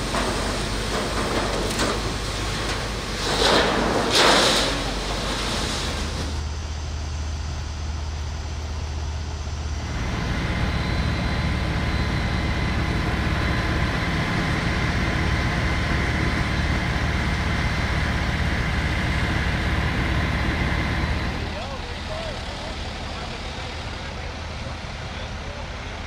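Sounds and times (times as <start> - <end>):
generator humming: 0.0 - 26.0.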